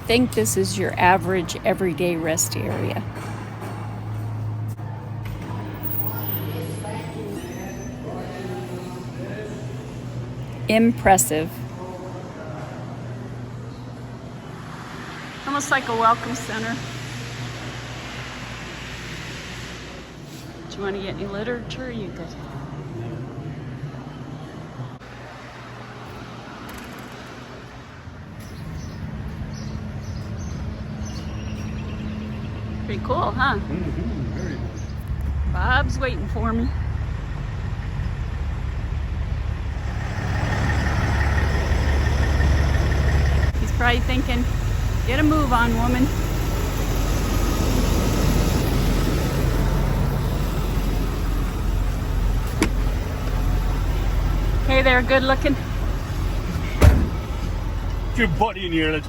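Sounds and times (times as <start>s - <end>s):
vehicle engine drone: 0.0s - 20.9s, 22.5s - 59.0s
road traffic noise: 0.0s - 59.0s.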